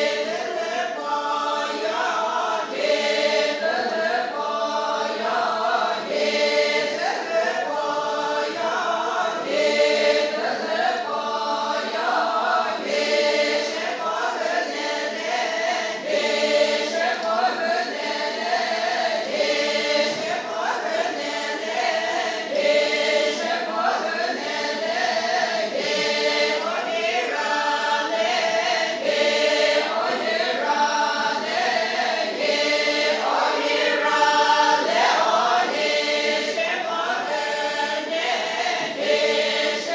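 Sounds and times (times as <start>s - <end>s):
group of voices singing: 0.0s - 39.9s.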